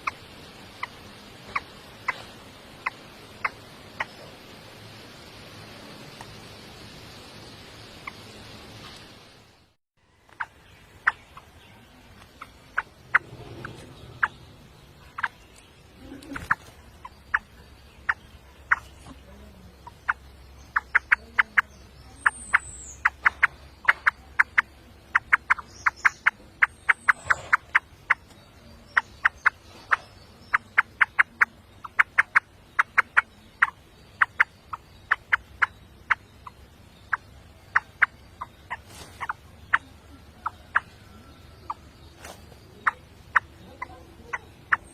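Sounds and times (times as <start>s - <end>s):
bird clicking calls: 0.0s - 4.4s, 6.1s - 6.4s, 10.2s - 44.9s.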